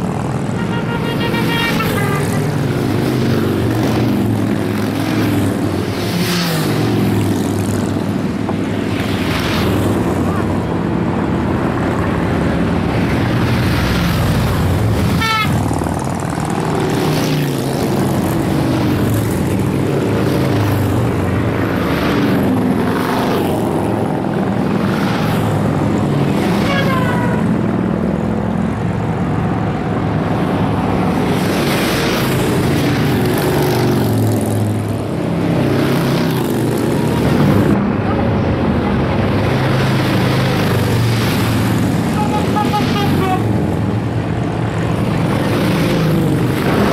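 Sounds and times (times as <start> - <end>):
motorcycles riding past: 0.0 - 46.9.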